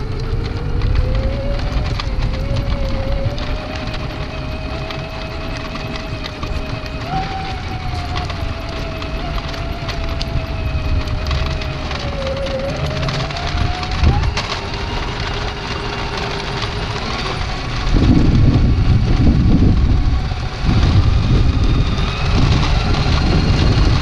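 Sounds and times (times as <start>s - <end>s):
small electric motor whining: 0.0s - 24.0s
small tyres rolling on asphalt: 0.0s - 24.0s.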